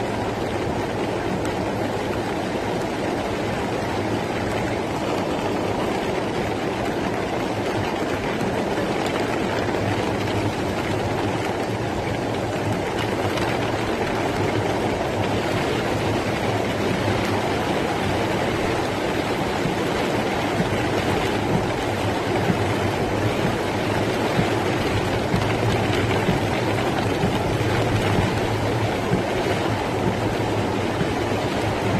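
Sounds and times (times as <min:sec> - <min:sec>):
rainwater rushing down street: 0:00.0 - 0:31.9.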